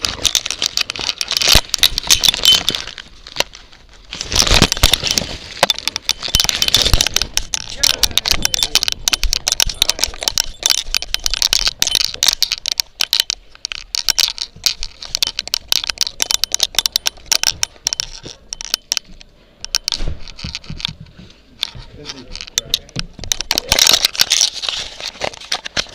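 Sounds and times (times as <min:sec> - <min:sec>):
dog collar rattling and clicking: 0:00.0 - 0:03.4, 0:04.2 - 0:21.0, 0:21.6 - 0:25.9.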